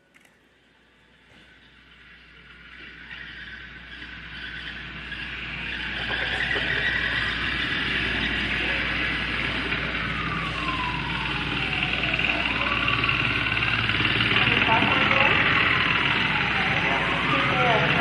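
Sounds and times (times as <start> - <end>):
atmospheric noise soundtrack: 0.4 - 18.0
falling siren-like glide: 1.6 - 18.0.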